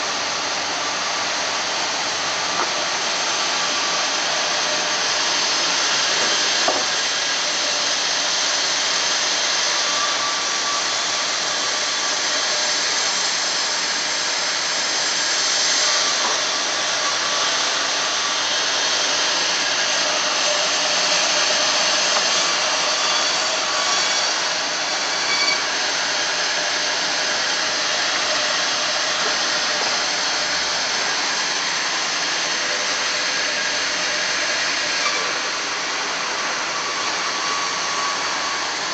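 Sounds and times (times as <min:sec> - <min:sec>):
bandsaw running: 0:00.0 - 0:38.9.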